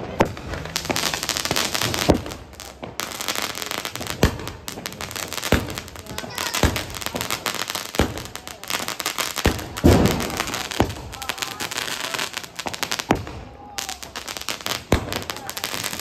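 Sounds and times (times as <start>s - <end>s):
firecrackers banging and crackling: 0.0s - 16.0s.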